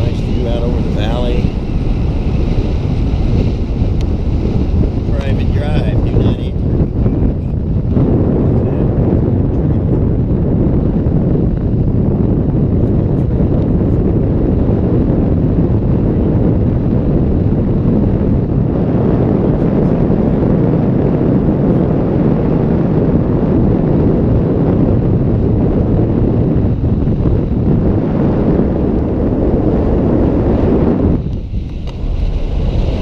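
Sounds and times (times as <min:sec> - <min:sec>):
road and engine rumble: 0:00.0 - 0:33.0
wind buffeting microphone: 0:00.0 - 0:33.0.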